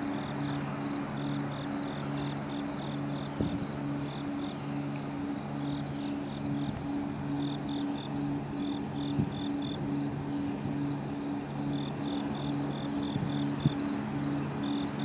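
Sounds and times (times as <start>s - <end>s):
insects chirping: 0.0s - 15.0s
low pulsing hum: 0.0s - 15.0s.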